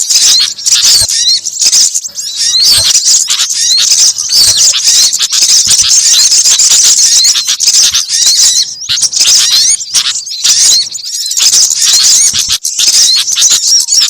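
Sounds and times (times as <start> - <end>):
songbirds chirping and twittering: 0.0 - 14.0.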